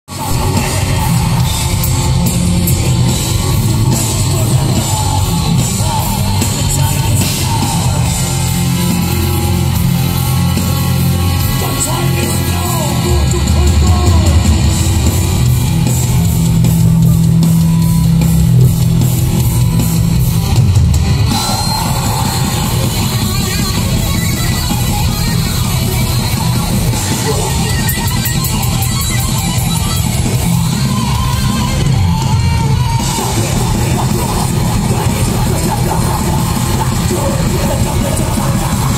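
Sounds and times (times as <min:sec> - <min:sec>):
bass guitar: 0:00.0 - 0:38.9
distorted electric guitars: 0:00.0 - 0:38.9
drum kit: 0:00.1 - 0:38.9.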